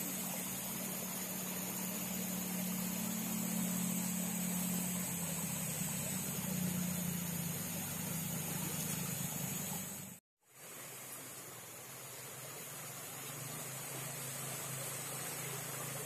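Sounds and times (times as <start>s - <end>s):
small engine running: 0.0s - 10.2s, 11.4s - 16.0s
steady hiss: 0.0s - 16.0s.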